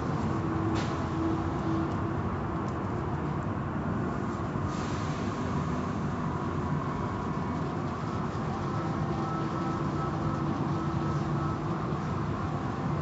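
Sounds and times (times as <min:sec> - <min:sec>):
car wash machinery rumble: 0:00.0 - 0:13.0.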